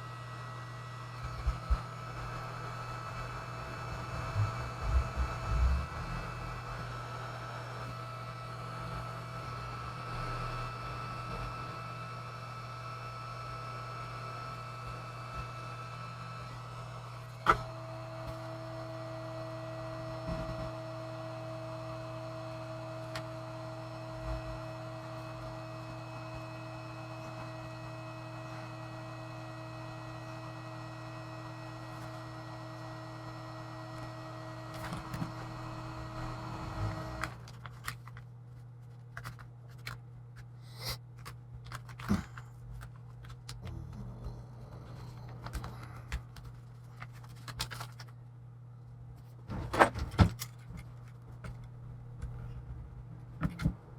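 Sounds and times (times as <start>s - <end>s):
electrical hum with whine: 0.0s - 53.9s.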